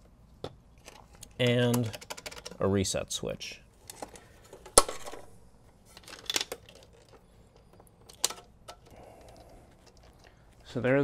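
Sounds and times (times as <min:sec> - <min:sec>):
light rustling of cables: 0:00.0 - 0:03.0, 0:03.7 - 0:11.0.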